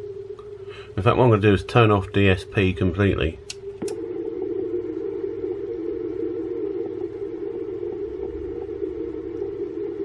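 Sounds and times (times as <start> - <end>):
faint static crackles: 0.0 - 10.0
radio static hiss: 0.0 - 10.0.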